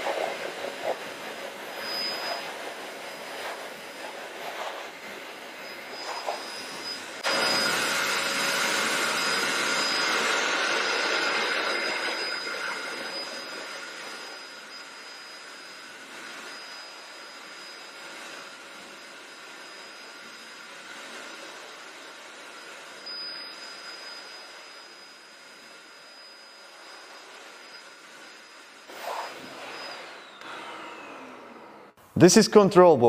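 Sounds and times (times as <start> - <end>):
pet dryer blowing air: 0.0 - 32.0.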